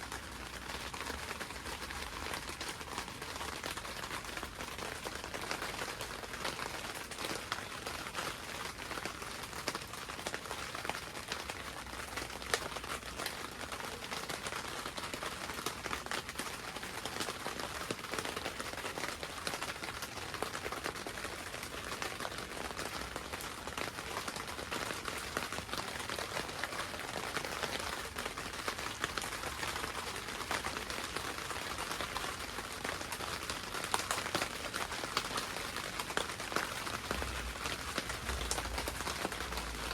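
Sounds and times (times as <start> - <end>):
rain pattering on greenhouse roof: 0.0 - 39.9.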